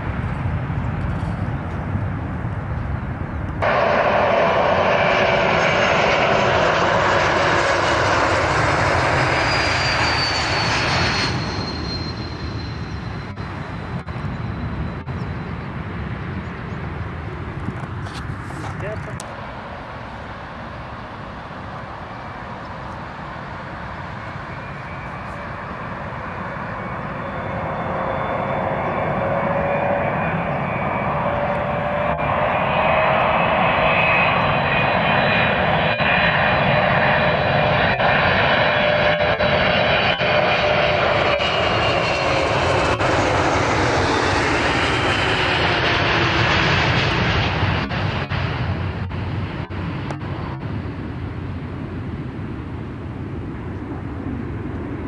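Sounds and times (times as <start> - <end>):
high engine whine: 0.0 - 55.0
jet engines roaring: 0.0 - 55.0.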